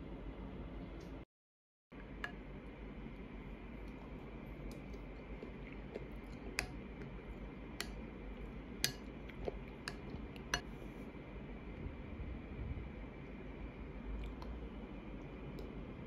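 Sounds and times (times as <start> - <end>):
faint low hum: 1.9 - 16.0.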